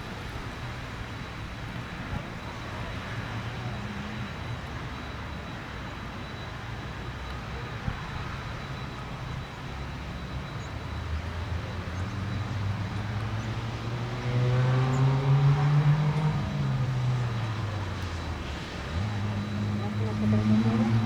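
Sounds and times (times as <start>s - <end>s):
turboprop propeller drone: 0.0s - 14.2s, 15.1s - 21.0s.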